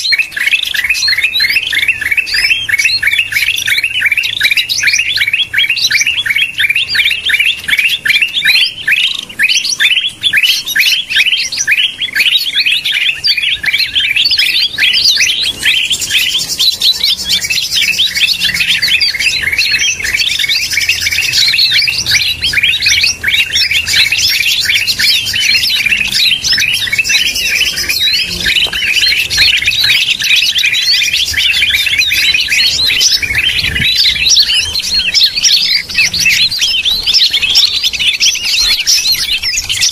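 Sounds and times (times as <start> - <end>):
bird rapid chirping chatter: 0.0 - 39.9
higher bird notes: 0.0 - 39.9.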